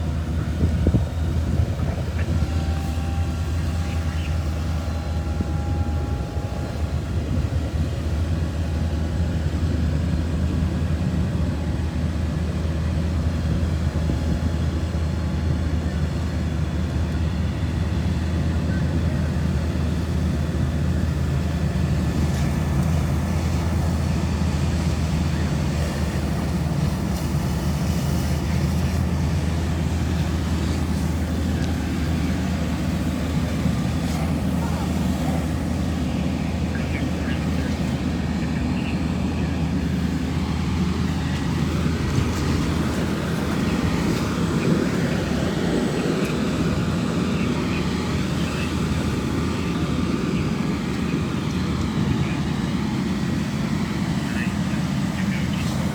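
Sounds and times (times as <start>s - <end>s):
fire engines rumbling: 0.0s - 55.9s.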